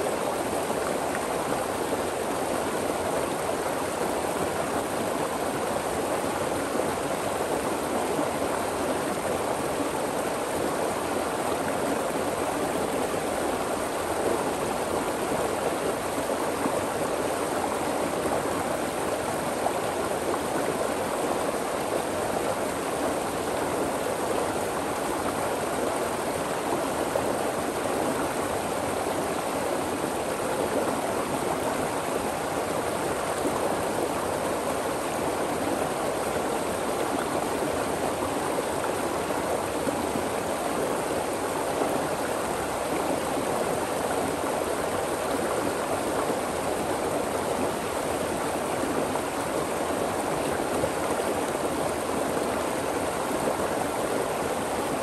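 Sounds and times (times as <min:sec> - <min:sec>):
water rushing over stones: 0:00.0 - 0:55.0.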